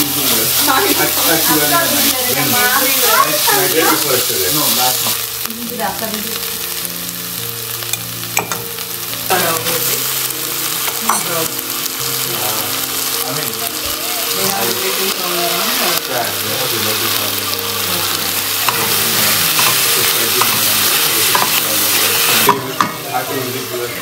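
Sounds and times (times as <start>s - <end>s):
food sizzling in hot oil: 0.0s - 24.0s
soft background music: 0.0s - 24.0s.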